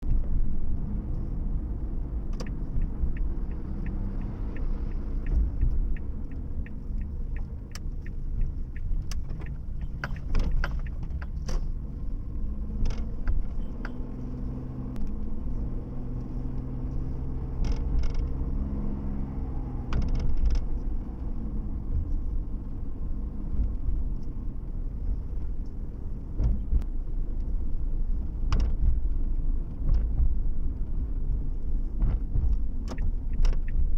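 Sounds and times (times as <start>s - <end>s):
car road and engine rumble: 0.0s - 33.9s
turn signal ticking: 0.0s - 33.9s.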